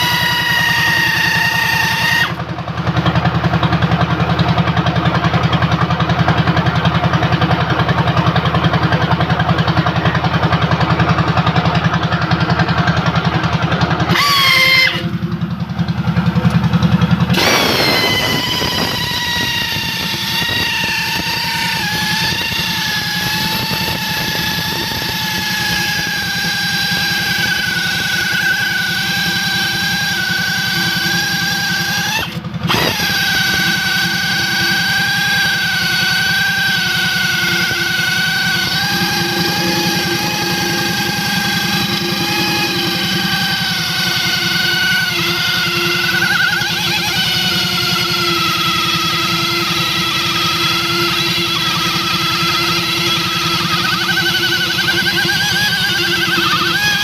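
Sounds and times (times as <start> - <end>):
low pulsing hum: 0.0 - 57.0
motor-driven machine whining: 0.0 - 57.0.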